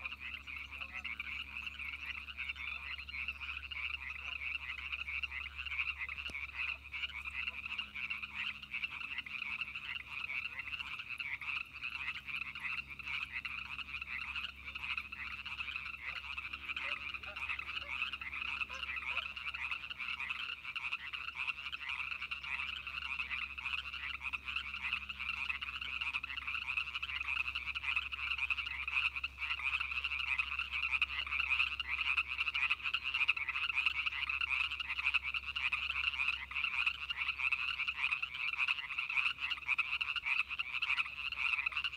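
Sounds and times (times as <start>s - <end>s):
chorus of frogs calling: 0.0s - 41.9s.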